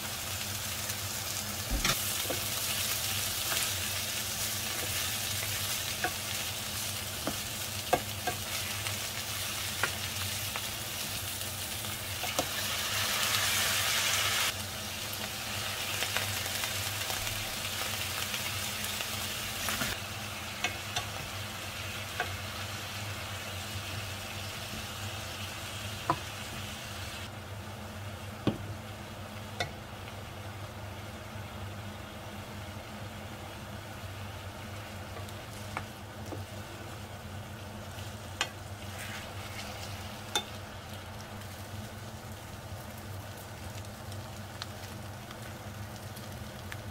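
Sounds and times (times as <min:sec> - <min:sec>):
vegetables sizzling in frying pan: 0:00.0 - 0:46.9.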